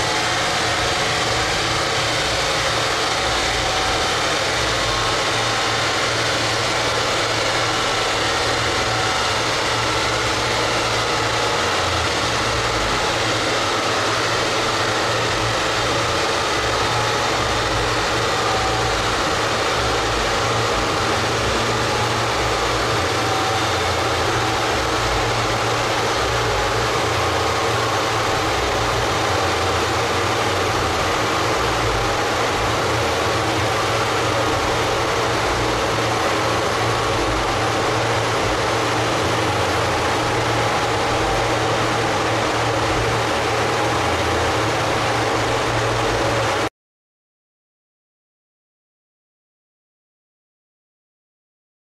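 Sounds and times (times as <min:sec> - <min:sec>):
large cooling fan drone: 0:00.0 - 0:46.7.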